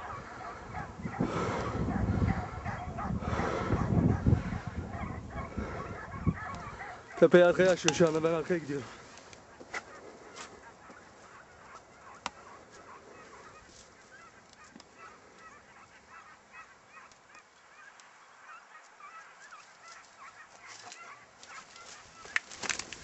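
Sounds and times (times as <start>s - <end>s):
distant hounds baying: 0.0s - 22.9s.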